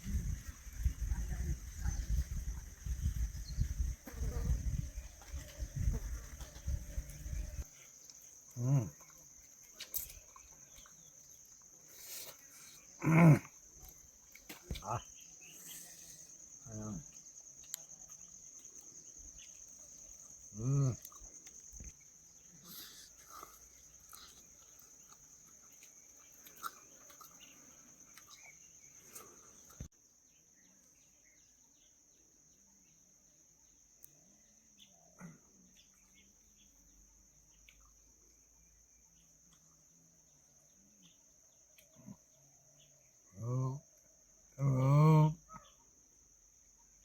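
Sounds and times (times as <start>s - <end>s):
faint high insect drone: 0.0s - 47.0s.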